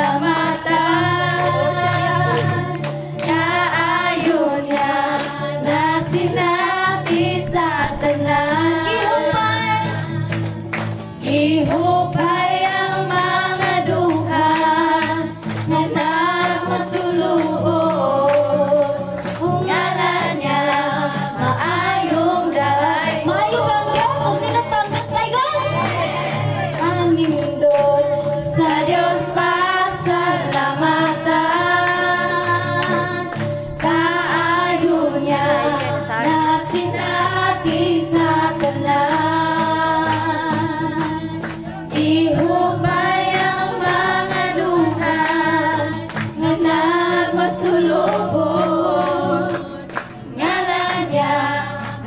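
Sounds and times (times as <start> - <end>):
group singing gospel song: 0.0 - 52.0.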